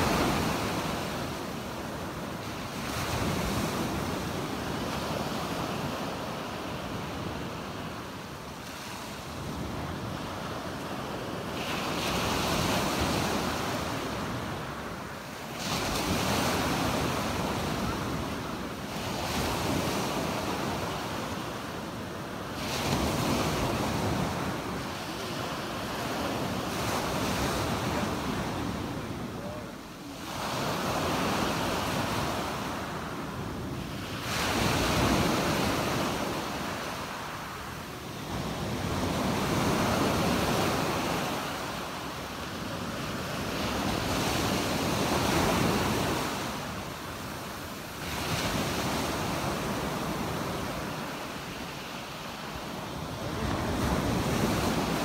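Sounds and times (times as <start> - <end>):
small waves washing up a beach: 0.0 - 55.0.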